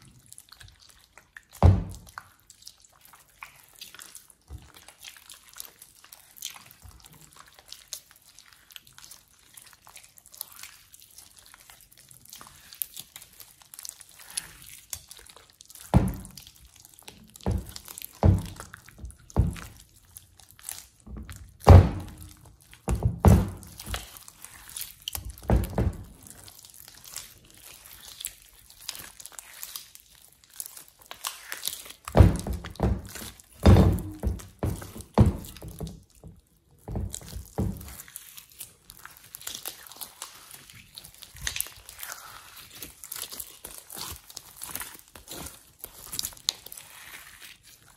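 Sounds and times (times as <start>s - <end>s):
hands squelching slime: 0.0s - 47.9s
sticky crackles of slime: 0.0s - 47.9s.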